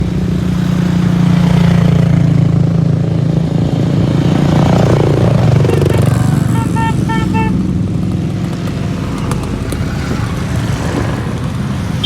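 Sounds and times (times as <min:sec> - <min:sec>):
motorcycle engine revving: 0:00.0 - 0:12.0
motorcycle engines rumbling: 0:00.0 - 0:12.0.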